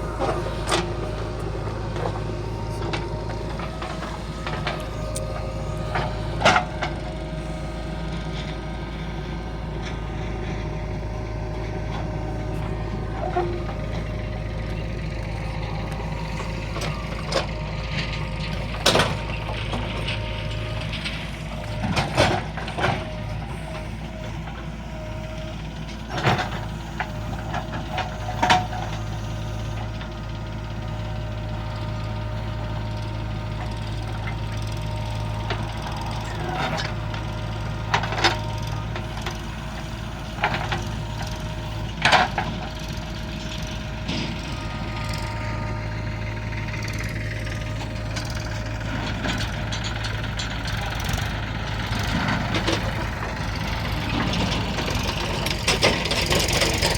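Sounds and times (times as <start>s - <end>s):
heavy diesel machinery drone: 0.0s - 56.9s
steady machine whine: 0.0s - 56.9s.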